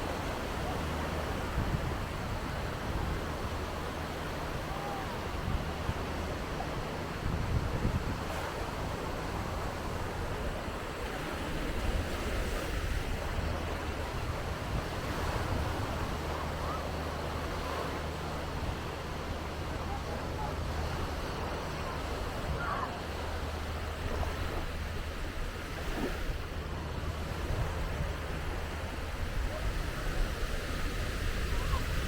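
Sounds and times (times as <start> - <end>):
surf washing onto beach: 0.0 - 32.0
wind on microphone: 0.0 - 32.0.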